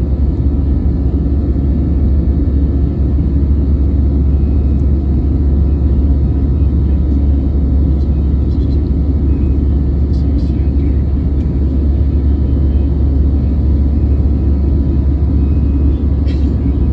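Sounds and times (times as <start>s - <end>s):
airliner cabin jet rumble: 0.0s - 16.9s.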